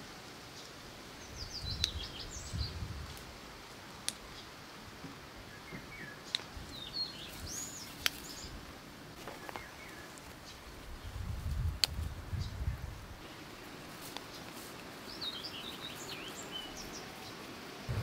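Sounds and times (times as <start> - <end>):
songbirds twittering: 0.5 - 3.1, 5.2 - 11.3, 12.0 - 18.0.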